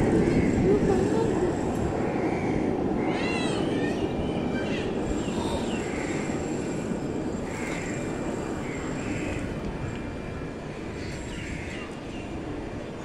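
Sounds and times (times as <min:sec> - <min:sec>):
large outdoor crowd rumble: 0:00.0 - 0:13.0.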